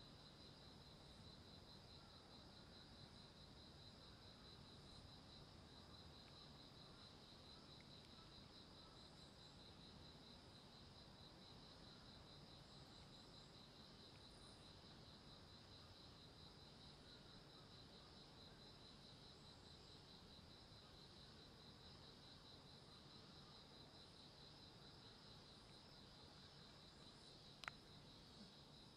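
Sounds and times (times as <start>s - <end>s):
faint crickets chirping: 0.0s - 28.9s.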